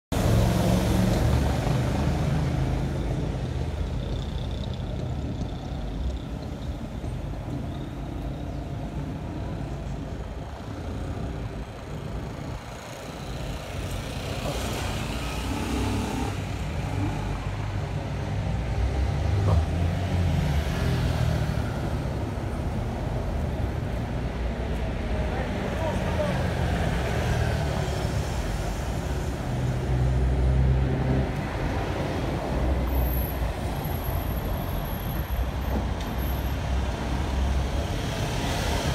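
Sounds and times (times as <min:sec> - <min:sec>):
motor vehicles passing: 0:00.2 - 0:33.8.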